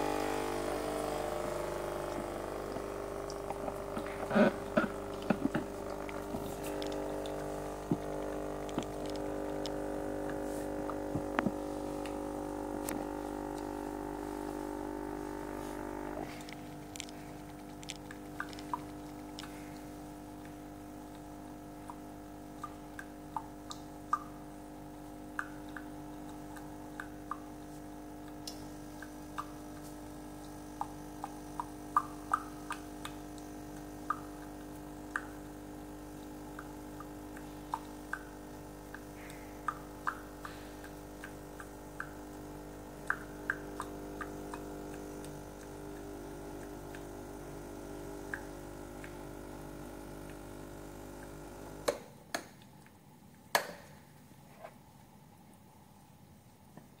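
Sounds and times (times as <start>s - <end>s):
steady machine hum: 0.0s - 51.9s
espresso machine dripping: 0.0s - 52.0s.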